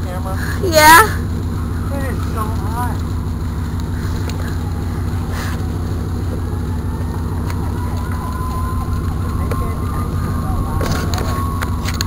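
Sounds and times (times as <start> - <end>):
vehicle engine rumble: 0.0 - 12.0
faint siren: 0.7 - 12.0.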